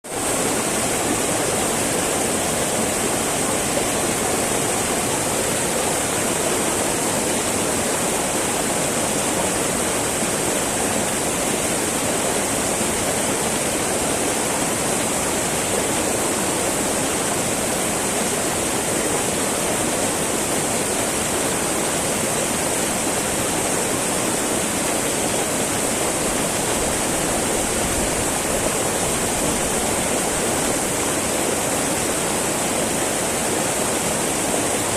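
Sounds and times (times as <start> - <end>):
river rushing over stones: 0.1 - 34.9.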